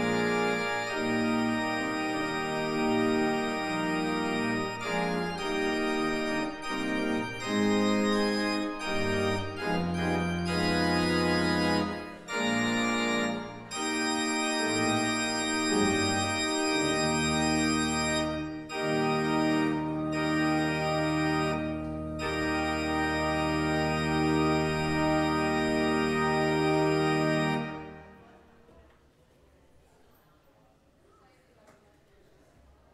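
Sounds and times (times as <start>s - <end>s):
church organ chords: 0.0s - 28.2s.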